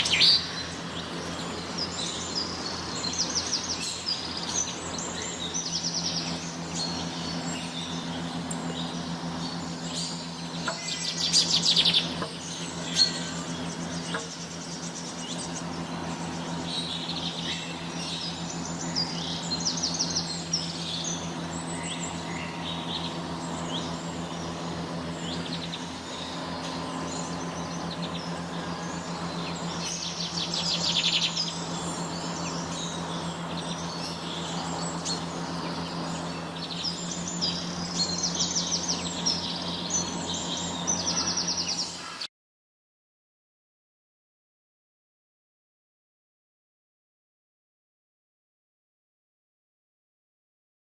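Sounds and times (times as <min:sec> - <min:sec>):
low mechanical hum: 0:00.0 - 0:42.3
many birds chirping: 0:00.0 - 0:42.3.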